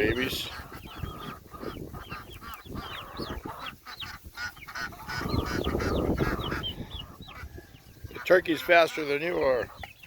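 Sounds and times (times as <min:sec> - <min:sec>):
chickens and ducks squawking: 0:00.0 - 0:10.0.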